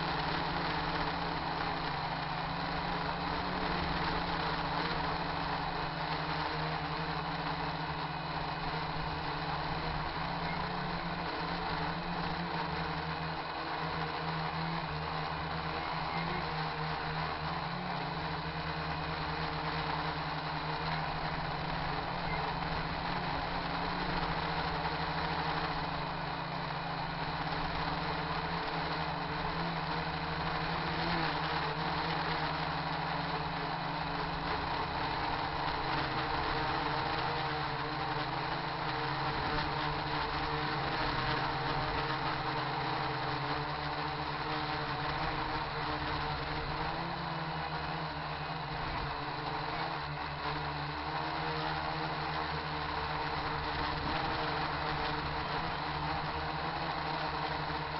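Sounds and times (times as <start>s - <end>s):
drone propellers buzzing: 0.0s - 57.9s.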